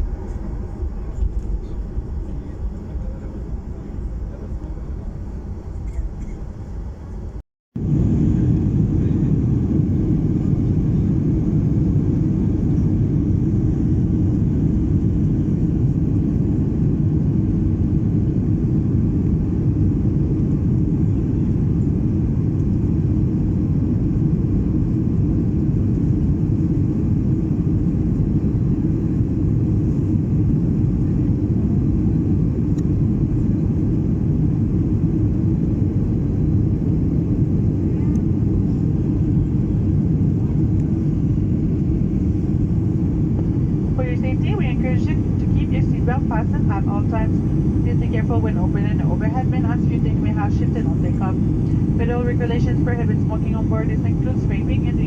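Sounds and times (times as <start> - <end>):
jet engine roar in cabin: 0.0 - 55.0.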